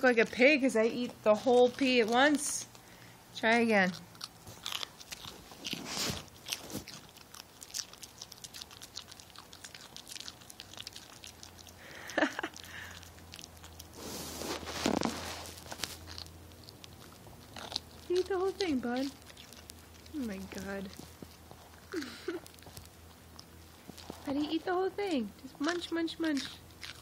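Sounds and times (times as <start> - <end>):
dog chewing crisp crunches: 0.0 - 27.0
rustling: 4.1 - 27.0.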